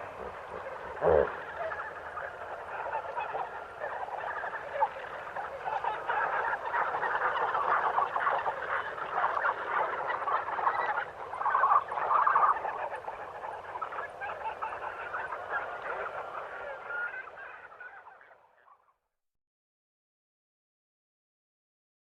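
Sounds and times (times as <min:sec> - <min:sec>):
chorus of animals calling: 0:00.0 - 0:19.0.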